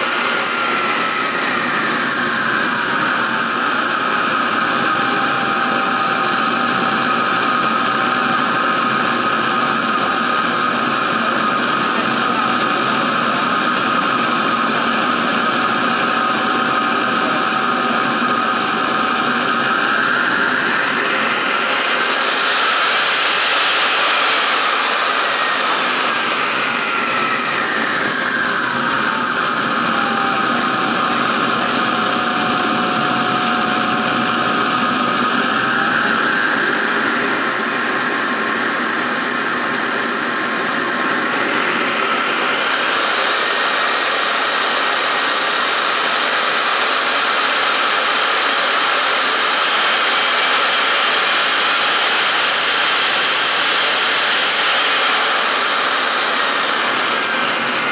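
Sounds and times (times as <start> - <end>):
jet turbine whining: 0.0 - 57.9.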